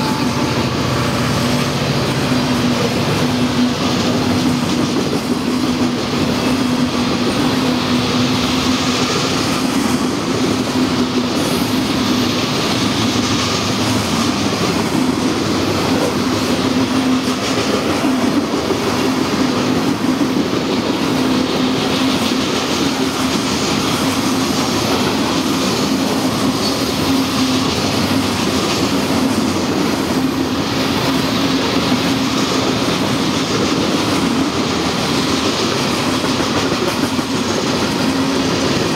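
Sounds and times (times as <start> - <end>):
train wheels rolling on rails: 0.0 - 38.9.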